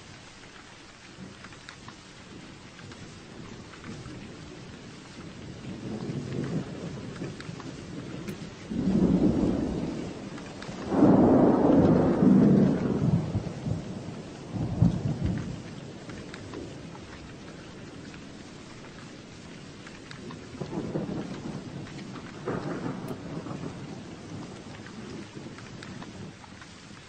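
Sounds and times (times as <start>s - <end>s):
steady rain: 0.0s - 27.0s
thunder rumbling: 2.2s - 27.0s.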